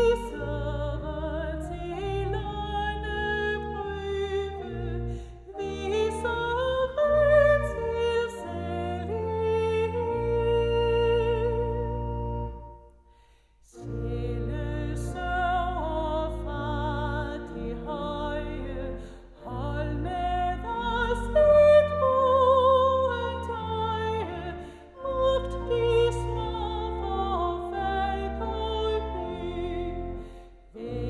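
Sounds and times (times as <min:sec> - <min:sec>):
woman singing a hymn: 0:00.0 - 0:12.5, 0:13.7 - 0:31.0
church organ chords: 0:00.0 - 0:12.9, 0:13.8 - 0:31.0.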